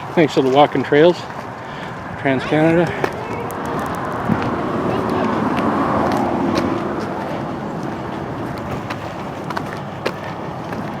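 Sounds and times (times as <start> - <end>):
steady highway traffic rush: 0.0 - 11.0
vehicle passing: 0.0 - 11.0.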